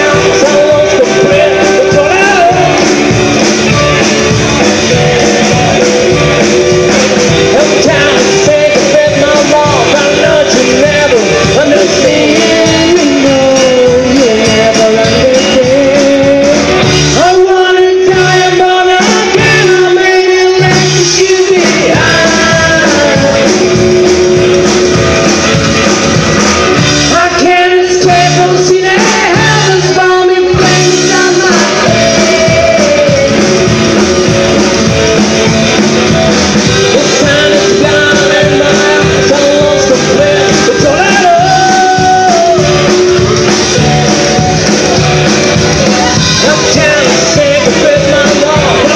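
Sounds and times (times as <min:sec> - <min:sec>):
drums: 0:00.0 - 0:48.9
electric guitar: 0:00.0 - 0:48.9
person singing: 0:00.0 - 0:48.9.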